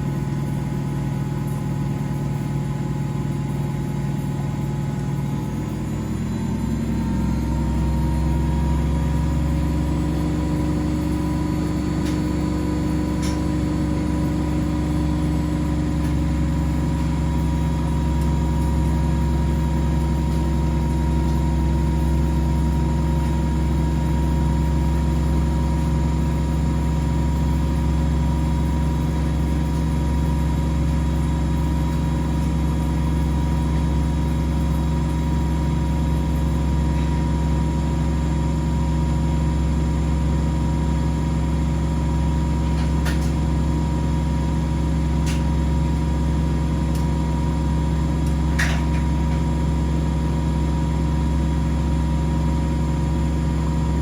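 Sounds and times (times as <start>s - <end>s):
washing machines and dryers humming: 0.0s - 54.0s.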